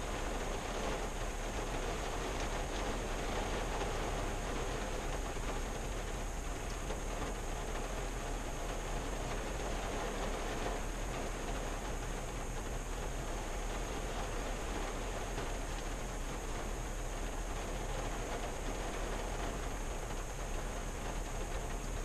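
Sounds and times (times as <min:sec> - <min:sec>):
rain pattering on car: 0:00.0 - 0:22.0.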